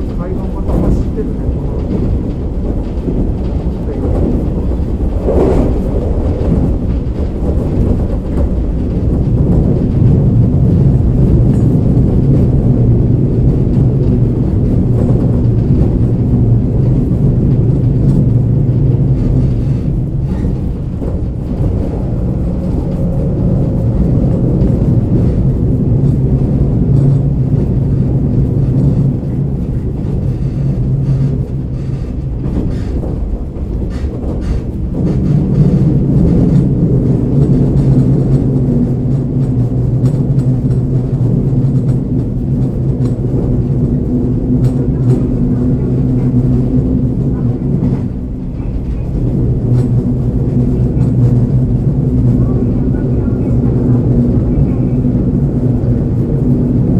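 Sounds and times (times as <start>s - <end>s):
wheel and rail noise: 0.0s - 56.9s.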